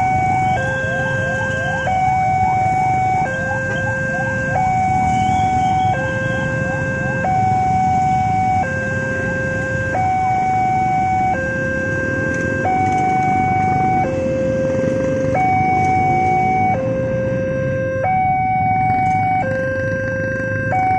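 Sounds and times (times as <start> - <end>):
railroad crossing alarm tones: 0.0 - 20.9
traffic rumble: 0.0 - 20.9.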